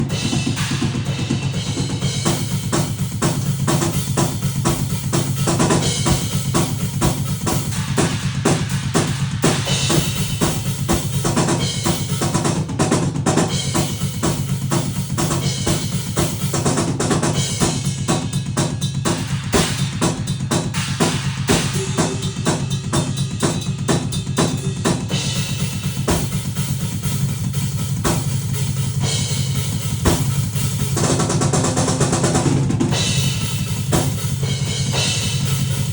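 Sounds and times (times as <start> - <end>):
fast drum-like percussion beat: 0.0 - 35.9
steady low drone: 0.0 - 35.9.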